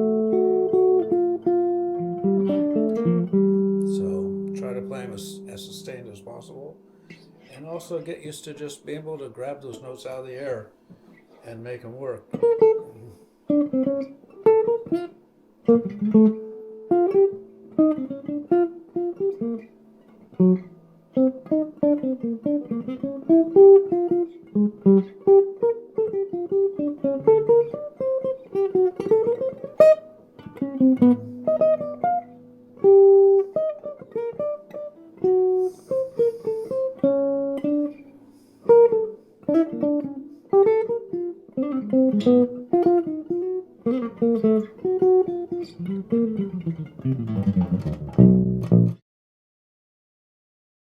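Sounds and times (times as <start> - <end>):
solo jazz guitar: 0.0 - 49.0.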